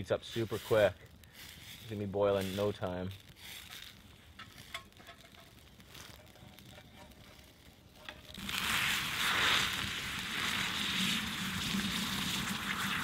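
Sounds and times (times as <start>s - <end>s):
fire crackling: 0.0s - 13.0s
water sizzling in a pan: 0.0s - 13.0s.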